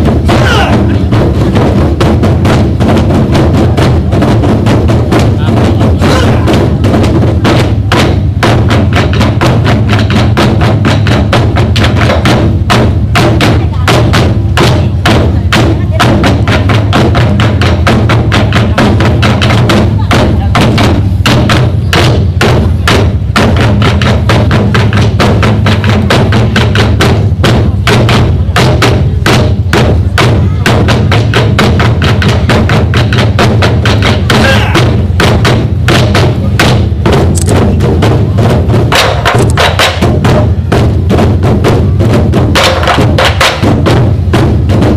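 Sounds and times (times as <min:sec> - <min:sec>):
drum ensemble beating fast rhythm: 0:00.0 - 0:44.9.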